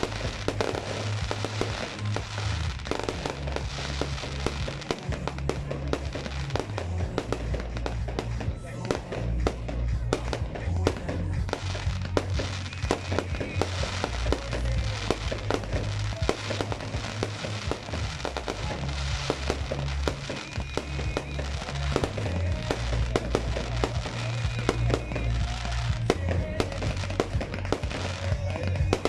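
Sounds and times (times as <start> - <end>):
fireworks bangs and crackles: 0.0 - 29.0
music with heavy bass: 0.0 - 29.0.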